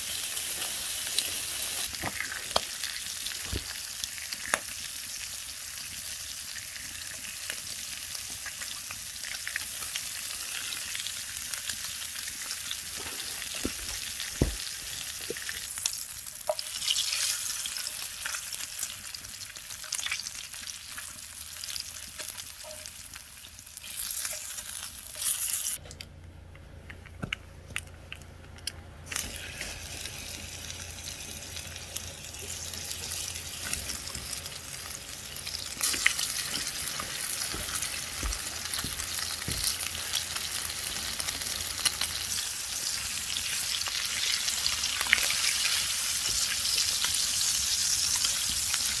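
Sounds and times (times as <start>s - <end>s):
steak sizzling over campfire: 0.0s - 25.8s, 29.1s - 49.0s.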